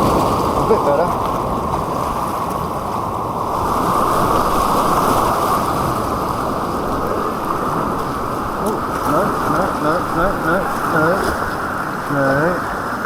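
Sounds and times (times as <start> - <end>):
rushing white water: 0.0 - 13.0.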